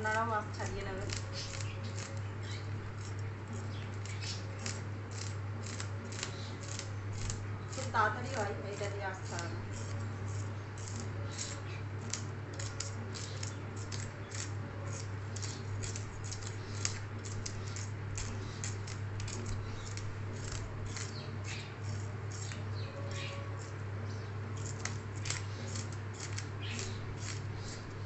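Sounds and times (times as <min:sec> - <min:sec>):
metal scaler scraping fish scales: 0:00.0 - 0:28.0
steady low hum: 0:00.0 - 0:28.0.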